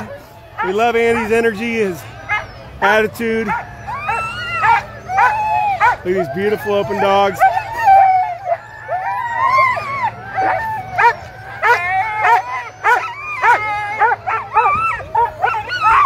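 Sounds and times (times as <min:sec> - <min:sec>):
dogs barking yelping and howling: 0:00.0 - 0:16.0.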